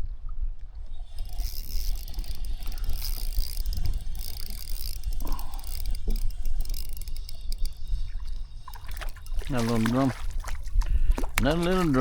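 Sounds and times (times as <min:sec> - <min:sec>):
fishing reel whirring: 0:00.7 - 0:10.8.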